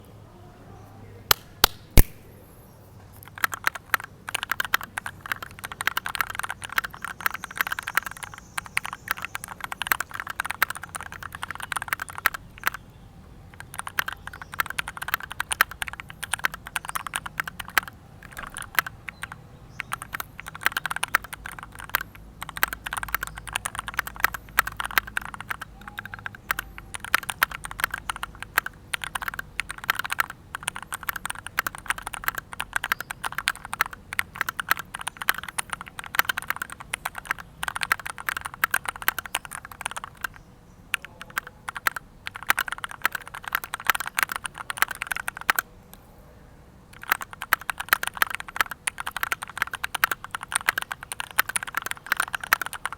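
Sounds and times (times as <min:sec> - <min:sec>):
sharp clicks: 0:01.3 - 0:02.4, 0:03.2 - 0:12.9, 0:13.5 - 0:46.0, 0:46.9 - 0:52.9
typing on mechanical keyboard: 0:03.2 - 0:12.9, 0:13.5 - 0:45.7, 0:46.9 - 0:52.9.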